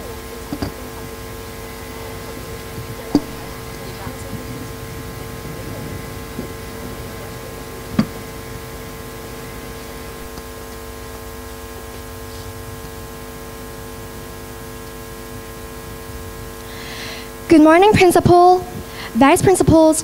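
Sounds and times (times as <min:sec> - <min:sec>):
electrical mains hum with hiss: 0:00.0 - 0:20.0.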